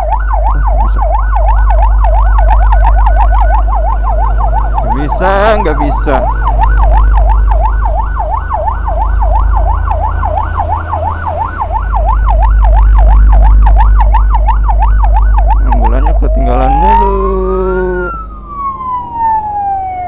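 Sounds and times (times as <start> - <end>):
electronic siren yelping: 0.0 - 20.0.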